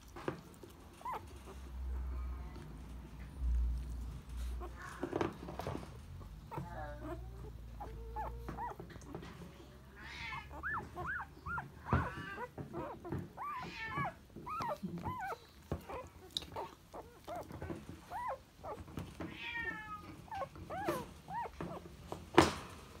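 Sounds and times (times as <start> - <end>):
puppies squeaking and mewling: 0.2 - 9.3, 9.9 - 22.3.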